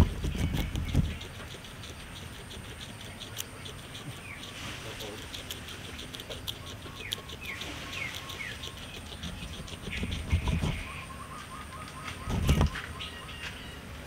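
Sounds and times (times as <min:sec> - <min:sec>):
birds chirping: 0:00.0 - 0:14.0
guinea pig chewing grass: 0:00.0 - 0:14.0.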